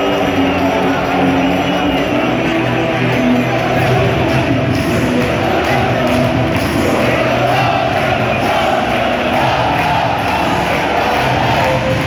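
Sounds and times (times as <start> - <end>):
faint crowd: 0.0 - 12.0
loud music over sound system: 0.0 - 12.0.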